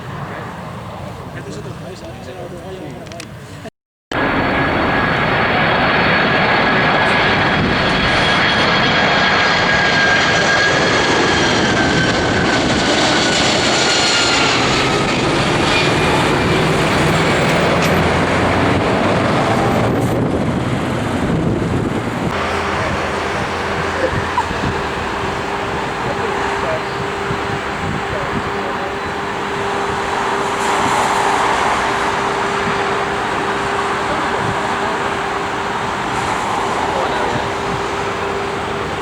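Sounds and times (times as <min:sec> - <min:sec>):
jet engines rushing with fan whine: 0:00.0 - 0:39.0.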